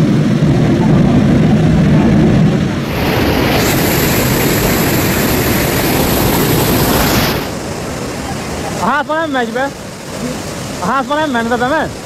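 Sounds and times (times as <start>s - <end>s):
flood water roaring: 0.0s - 12.0s.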